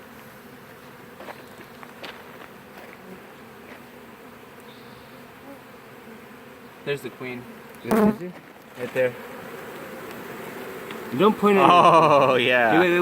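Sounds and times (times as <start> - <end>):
bee swarm humming: 0.0 - 13.0
single bee buzzing close by: 0.0 - 13.0.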